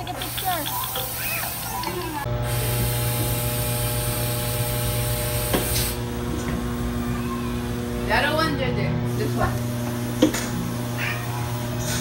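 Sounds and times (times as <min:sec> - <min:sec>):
steady machine hum: 0:00.0 - 0:11.8.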